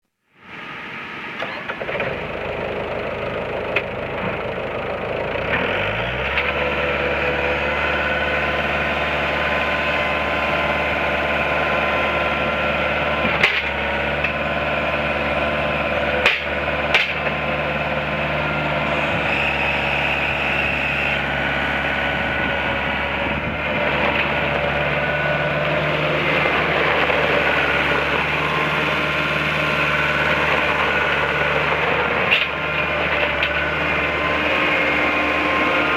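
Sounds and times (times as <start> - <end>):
diesel engine running: 0.4 - 35.9.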